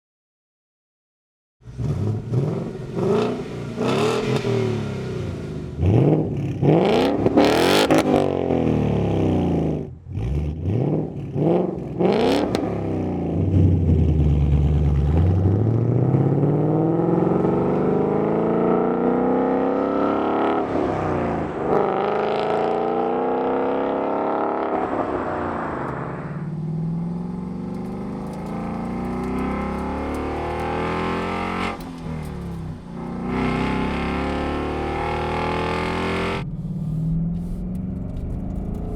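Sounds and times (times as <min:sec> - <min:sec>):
car engine revving: 0:01.6 - 0:38.9.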